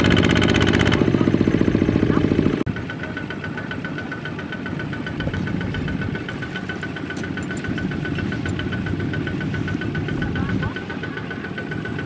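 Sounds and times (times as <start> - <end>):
diesel tractor engine knocking: 0.0 - 12.0.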